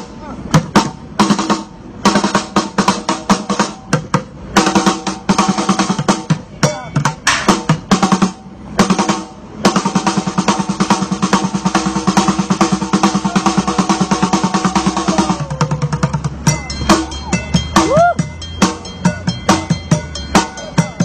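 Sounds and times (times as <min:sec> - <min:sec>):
bucket drumming: 0:00.5 - 0:21.0.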